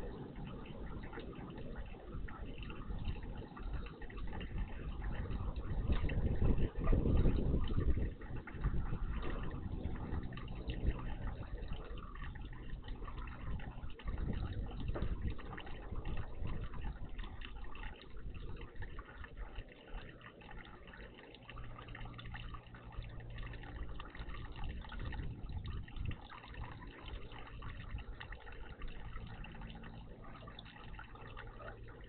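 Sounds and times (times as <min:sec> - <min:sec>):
water trickling and splashing: 0:00.0 - 0:32.0.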